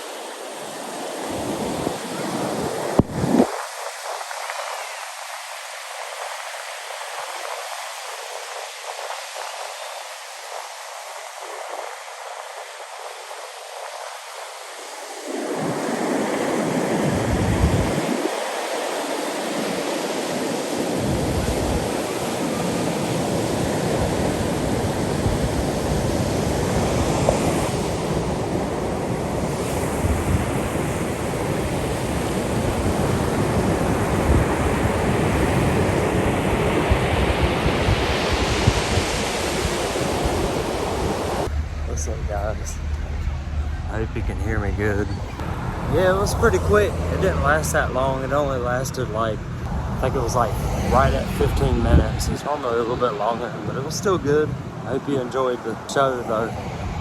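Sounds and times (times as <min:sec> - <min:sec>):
ocean surf on beach: 0:00.0 - 0:44.1, 0:44.8 - 0:57.0
wind buffeting microphone: 0:00.6 - 0:05.0, 0:15.0 - 0:57.0.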